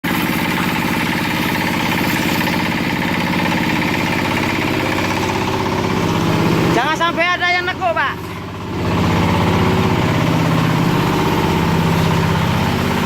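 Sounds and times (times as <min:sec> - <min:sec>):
engine-driven sprayer pulsing: 0:00.0 - 0:13.0.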